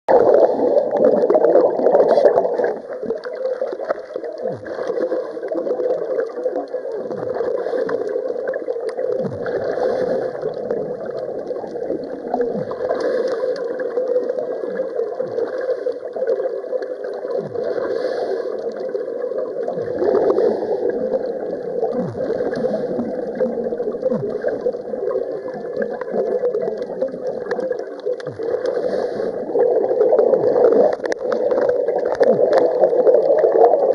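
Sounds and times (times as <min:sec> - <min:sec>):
gurgling bubbles: 0:00.1 - 0:33.9
underwater hum: 0:00.1 - 0:33.9.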